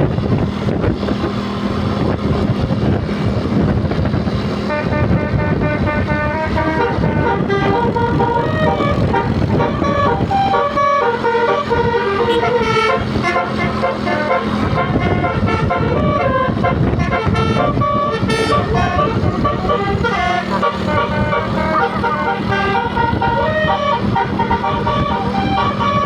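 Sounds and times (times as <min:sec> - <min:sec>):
steady low rumble: 0:00.0 - 0:26.0
bus musical horn playing a tune: 0:01.6 - 0:26.0.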